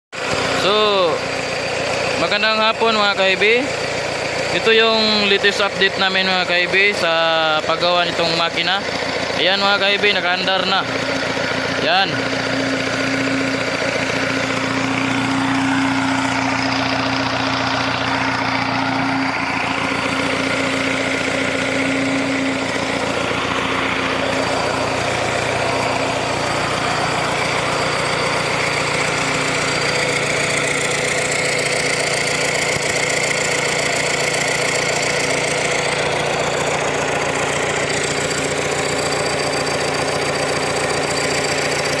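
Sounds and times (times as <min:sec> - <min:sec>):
engine idling: 0:00.1 - 0:42.0.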